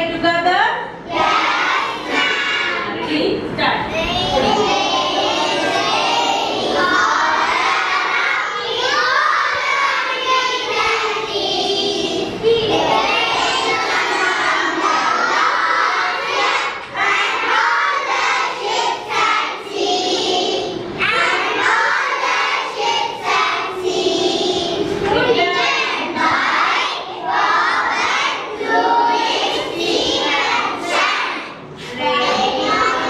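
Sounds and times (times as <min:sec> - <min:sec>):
children reciting in unison: 0:00.9 - 0:02.9, 0:03.9 - 0:33.0.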